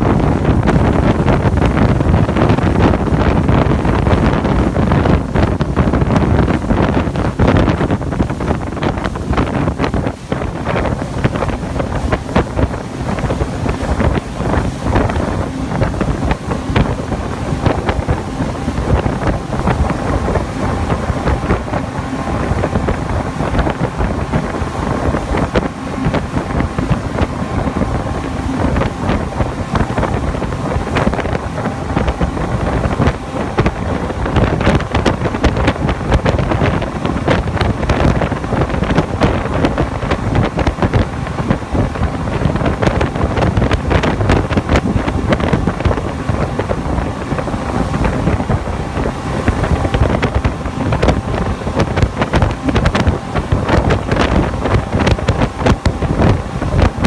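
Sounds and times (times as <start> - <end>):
speedboat engine drone: 0.0 - 57.0
wind buffeting microphone: 0.0 - 57.0.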